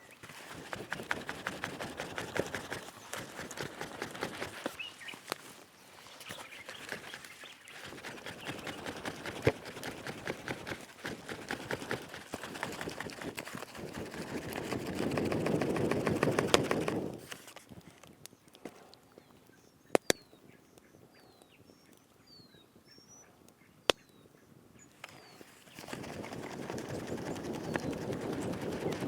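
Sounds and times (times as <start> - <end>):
quiet forest background: 0.0 - 29.0.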